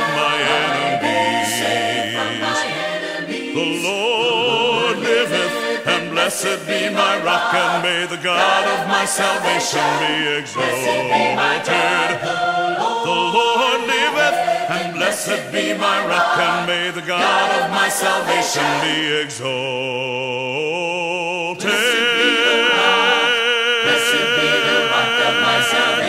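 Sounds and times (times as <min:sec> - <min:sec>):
choir singing in harmony: 0:00.0 - 0:26.0.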